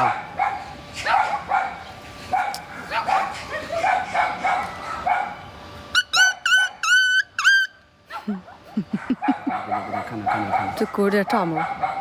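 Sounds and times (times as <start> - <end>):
dog yelping: 0.0 - 12.0
dogs barking: 0.0 - 12.0.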